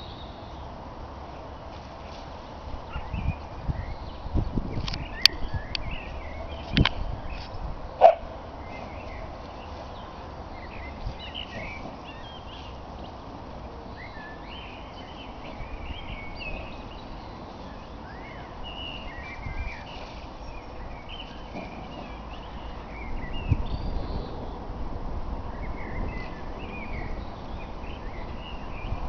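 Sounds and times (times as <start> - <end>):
low outdoor rumble: 0.0 - 29.0
songbirds chirping and singing: 2.8 - 24.7, 25.4 - 29.0.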